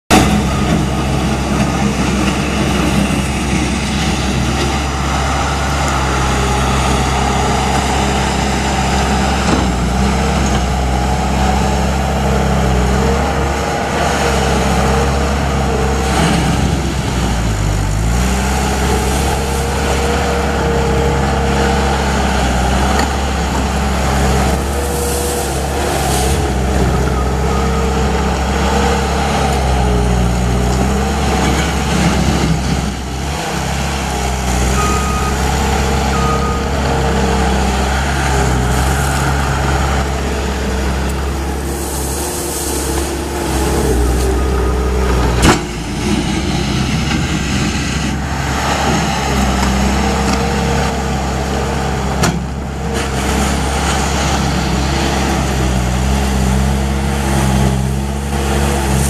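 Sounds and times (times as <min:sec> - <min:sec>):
diesel loader engine running: 0:00.0 - 0:59.0.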